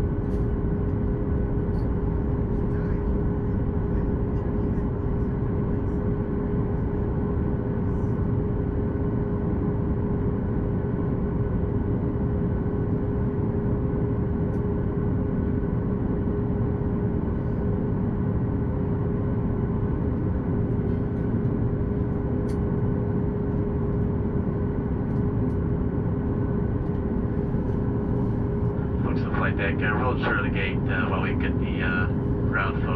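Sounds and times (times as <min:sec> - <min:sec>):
aircraft cabin rumble: 0:00.0 - 0:32.9.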